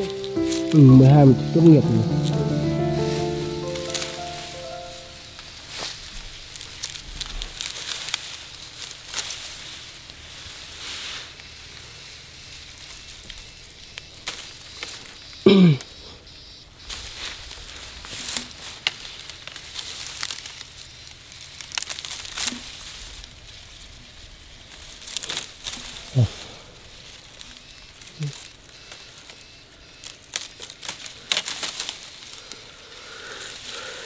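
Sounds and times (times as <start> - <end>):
grass and leaves rustling: 0.0 - 15.3, 16.8 - 34.0.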